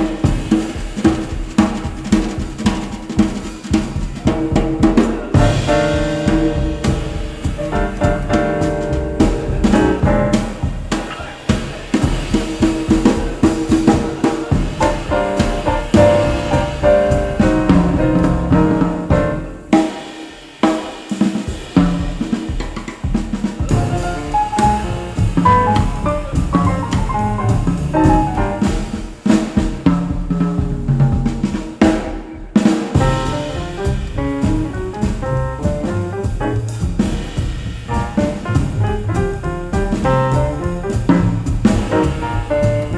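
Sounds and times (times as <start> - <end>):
drum kit: 0.0 - 42.9.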